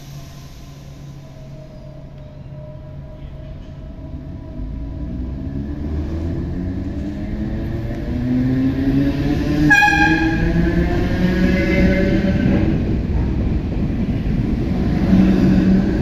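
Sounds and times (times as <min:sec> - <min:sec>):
electric train rumble: 0:00.0 - 0:16.0.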